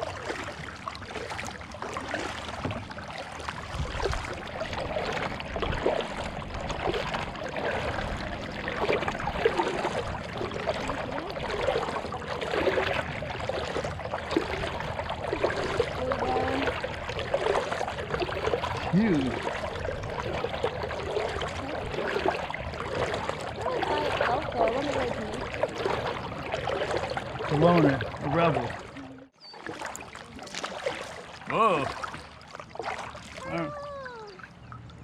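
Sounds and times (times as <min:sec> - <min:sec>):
paddle dripping and bubbling: 0:00.0 - 0:35.0
water gurgling around kayak: 0:00.0 - 0:35.0.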